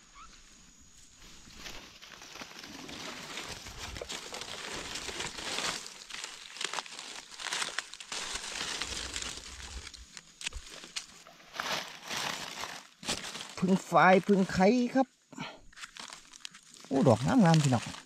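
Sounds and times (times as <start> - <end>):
dry leaves crackling and rustling: 1.2 - 15.0, 15.7 - 18.0.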